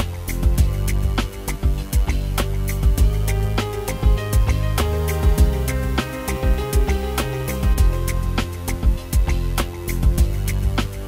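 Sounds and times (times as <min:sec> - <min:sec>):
music with punchy drum beat: 0:00.0 - 0:11.0.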